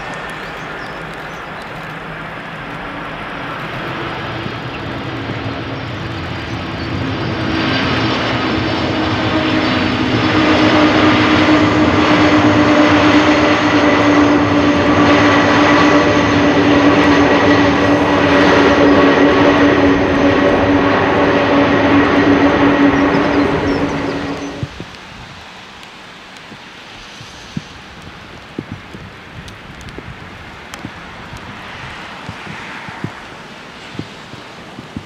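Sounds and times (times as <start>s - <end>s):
jet engines roaring with whine: 0.0s - 35.0s.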